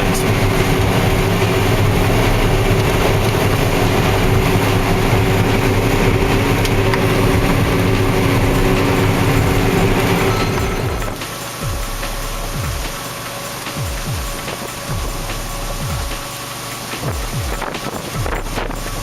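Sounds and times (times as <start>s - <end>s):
combine harvester engine and threshing drone: 0.0s - 19.0s.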